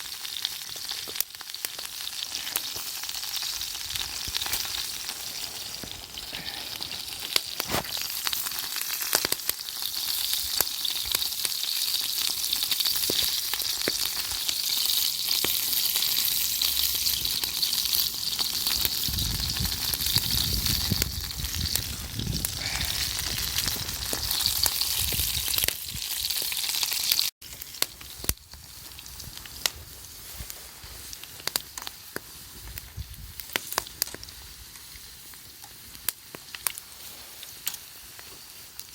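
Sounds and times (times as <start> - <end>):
crackles: 0.0 - 38.9
food sizzling in a pan: 0.0 - 38.9.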